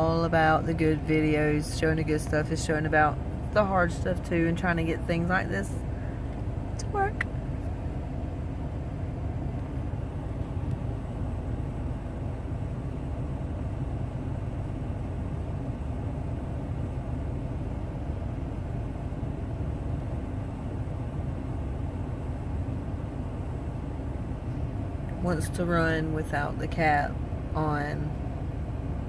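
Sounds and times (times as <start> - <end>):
engine idling inside vehicle cabin: 0.0 - 29.0.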